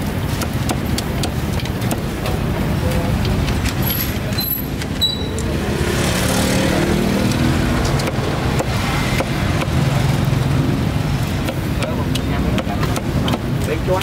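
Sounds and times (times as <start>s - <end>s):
road traffic passing: 0.0s - 14.0s
vehicle engine: 0.0s - 14.0s.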